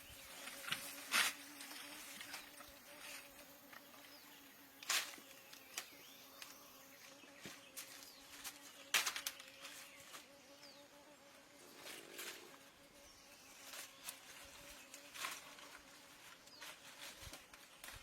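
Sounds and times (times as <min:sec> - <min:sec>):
insect buzz: 0:00.0 - 0:18.0.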